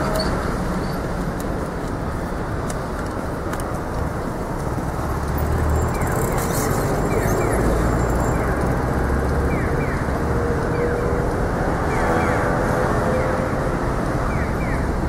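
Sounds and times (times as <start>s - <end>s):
city traffic: 0.0s - 15.0s.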